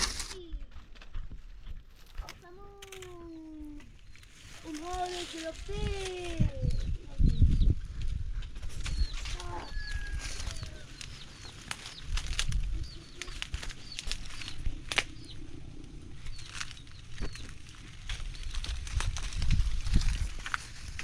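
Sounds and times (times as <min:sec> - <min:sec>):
small birds chirping: 0:01.6 - 0:21.0.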